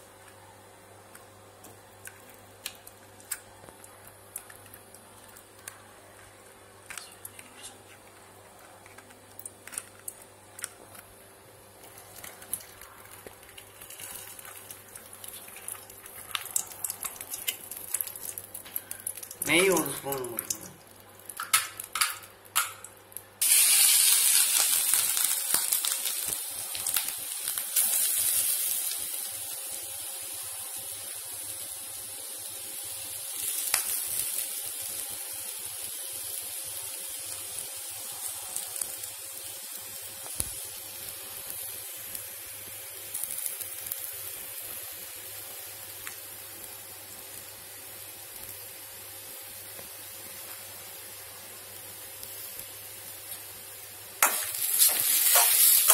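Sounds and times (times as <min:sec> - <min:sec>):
coconut sizzling in hot fat: 0:00.0 - 0:55.9.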